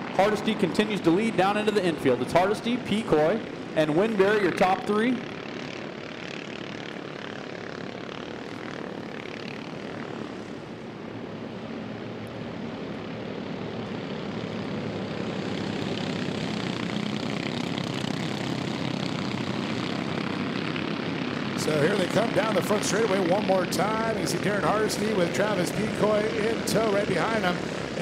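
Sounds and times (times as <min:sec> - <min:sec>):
race kart engines droning: 0:00.0 - 0:28.0.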